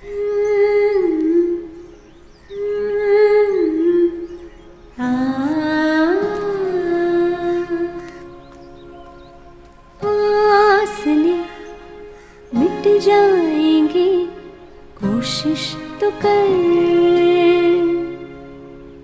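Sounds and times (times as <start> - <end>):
soft background music: 0.0 - 19.0.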